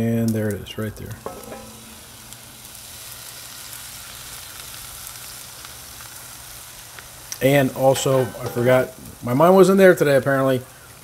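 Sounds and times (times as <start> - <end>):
eggs sizzling on griddle: 0.0 - 11.0
water hissing on hot plate: 0.0 - 11.0.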